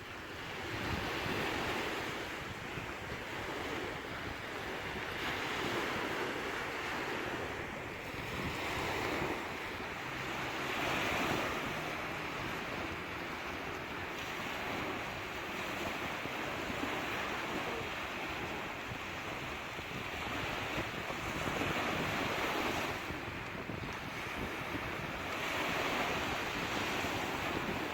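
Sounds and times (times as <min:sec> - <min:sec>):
sea waves breaking on shore: 0:00.0 - 0:27.9
wind noise on microphone: 0:00.0 - 0:27.9.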